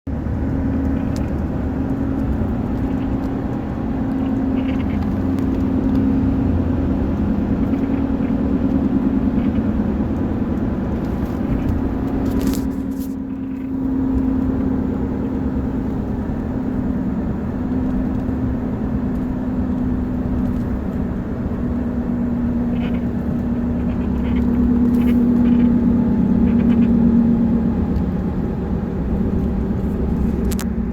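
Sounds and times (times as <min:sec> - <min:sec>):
truck engine rumble: 0:00.1 - 0:30.9.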